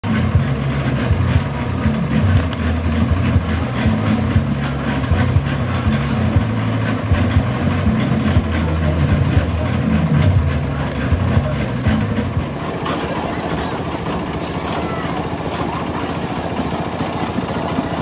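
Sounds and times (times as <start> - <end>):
concrete mixer engine running: 0.0 - 18.0.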